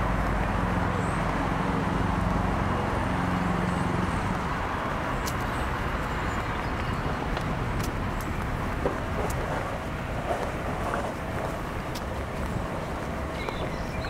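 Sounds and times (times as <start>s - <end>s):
road traffic hiss: 0.0s - 14.0s
vehicle engine hum: 0.0s - 14.0s.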